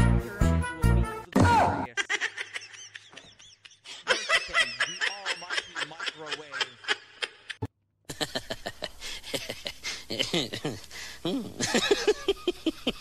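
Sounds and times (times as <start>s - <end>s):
person giggling: 1.9s - 13.0s.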